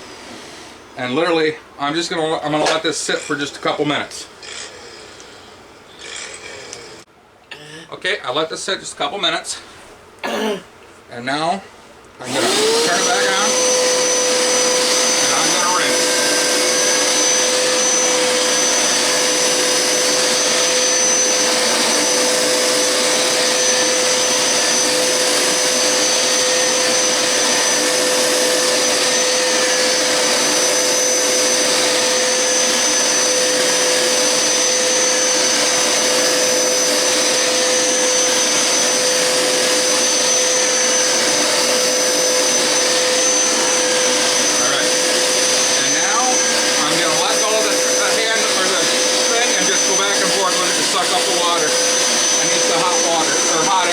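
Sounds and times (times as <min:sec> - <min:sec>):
carpet cleaner running: 0:00.0 - 0:02.8, 0:12.2 - 0:53.9.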